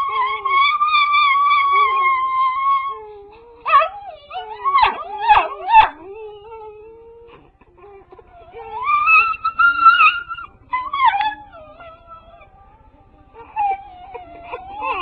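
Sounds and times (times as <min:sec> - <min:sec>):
dog howling and yelping: 0:00.0 - 0:15.0.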